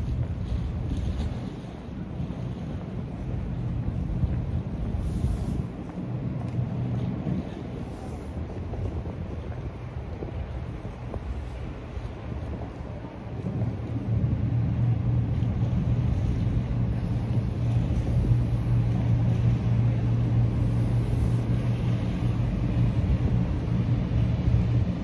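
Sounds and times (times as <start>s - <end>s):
boat engines droning: 0.0s - 25.0s.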